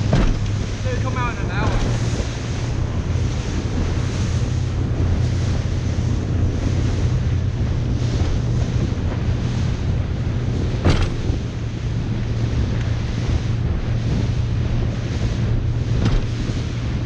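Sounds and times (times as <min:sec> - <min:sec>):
boat engine droning: 0:00.0 - 0:17.0
wind on microphone: 0:00.0 - 0:17.0.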